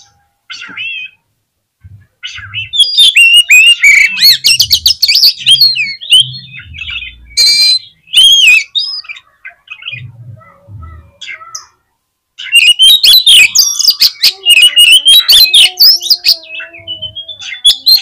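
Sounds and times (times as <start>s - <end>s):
magpie-robin singing: 0.0s - 1.2s, 2.2s - 10.2s, 12.4s - 18.0s.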